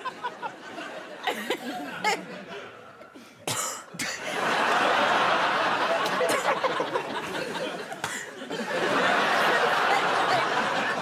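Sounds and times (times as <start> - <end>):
studio audience laughing: 0.0 - 3.0, 4.2 - 11.0.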